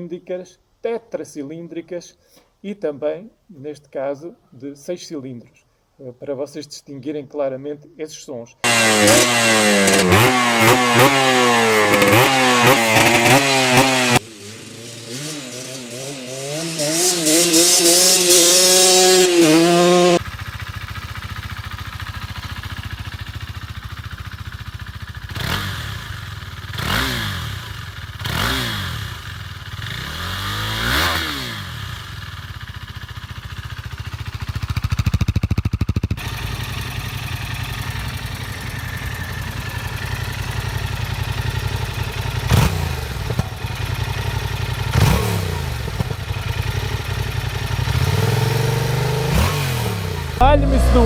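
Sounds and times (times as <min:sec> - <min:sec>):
motorcycle engine revving: 0:08.6 - 0:51.0.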